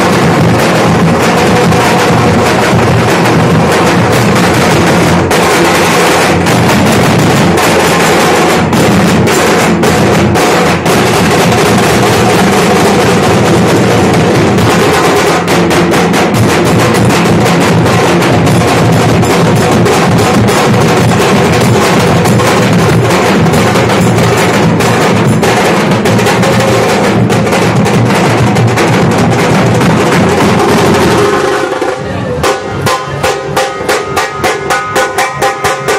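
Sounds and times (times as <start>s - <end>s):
barrel drums beaten with sticks: 0.0s - 35.9s.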